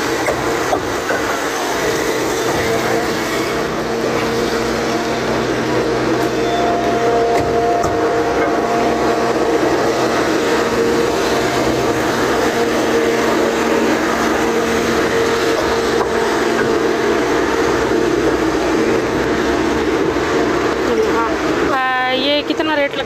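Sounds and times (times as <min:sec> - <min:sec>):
steady machine hum: 0:00.0 - 0:23.0
wash of noise: 0:00.0 - 0:23.0.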